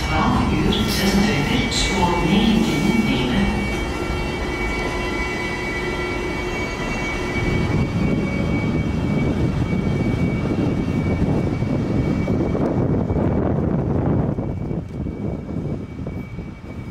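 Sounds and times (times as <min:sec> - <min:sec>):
train rumbling over rails: 0:00.0 - 0:16.9.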